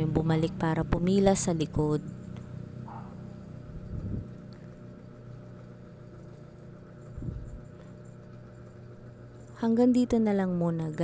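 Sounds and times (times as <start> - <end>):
low street hum: 0.0 - 11.0.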